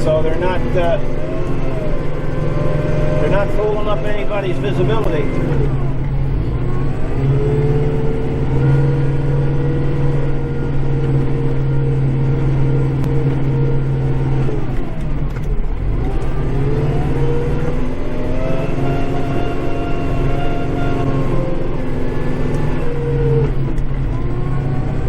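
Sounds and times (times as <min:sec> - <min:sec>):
tractor diesel engine: 0:00.0 - 0:25.0.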